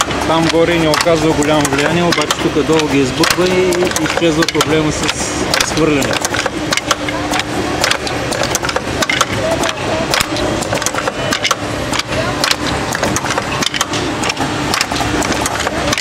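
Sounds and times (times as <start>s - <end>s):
sharp clicks and clatter: 0.0s - 16.0s
steady mechanical hum: 0.0s - 16.0s.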